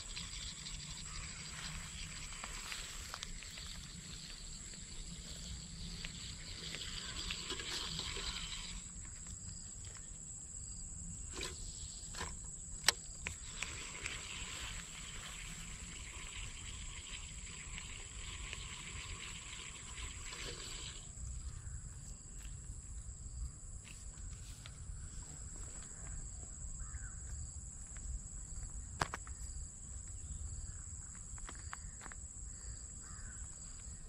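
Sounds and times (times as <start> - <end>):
high insect whine: 0.0 - 34.0
insects chirring: 0.0 - 34.0.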